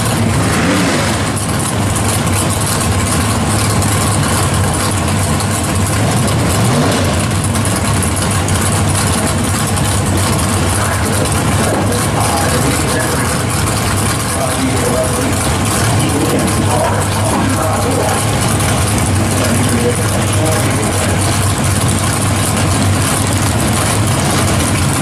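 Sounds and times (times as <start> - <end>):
drag car engine idling: 0.0 - 25.0.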